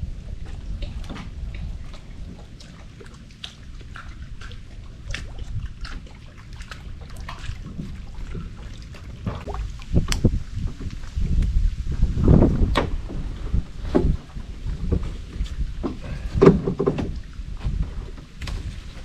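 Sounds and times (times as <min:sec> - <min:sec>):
low steady rumble: 0:00.0 - 0:19.0
water dripping and trickling: 0:00.0 - 0:19.0.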